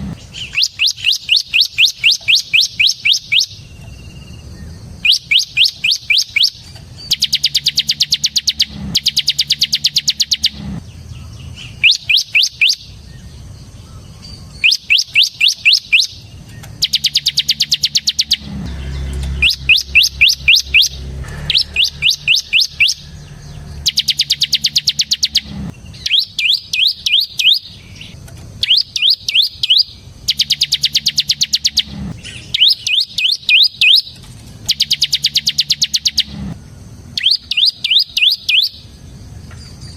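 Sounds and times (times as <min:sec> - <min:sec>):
bird singing rapid high notes: 0:00.1 - 0:13.4, 0:14.2 - 0:36.6, 0:37.2 - 0:39.0.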